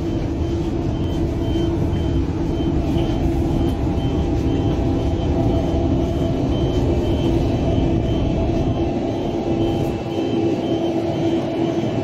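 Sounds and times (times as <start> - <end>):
high electronic alarm beeps: 0.0 - 12.0
train rumble and hum: 0.0 - 12.0.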